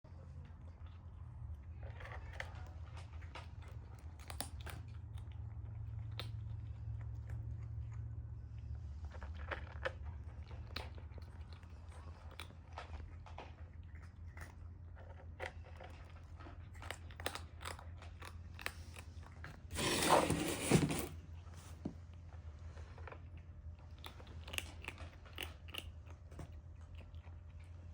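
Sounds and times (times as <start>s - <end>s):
kitten crunching food: 0.2s - 21.0s, 21.6s - 27.9s.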